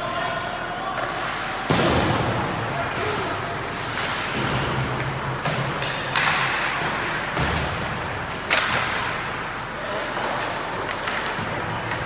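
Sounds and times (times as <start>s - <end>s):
skating and arena noise: 0.0s - 12.0s.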